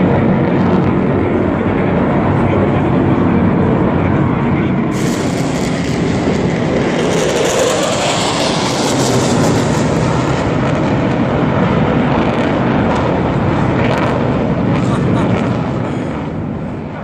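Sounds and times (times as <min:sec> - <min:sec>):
aircraft rushing rumble: 0:00.0 - 0:17.0.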